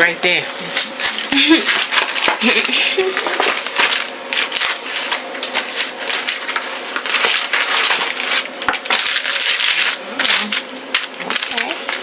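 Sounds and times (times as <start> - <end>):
plastic packaging crinkling: 0.6 - 12.0.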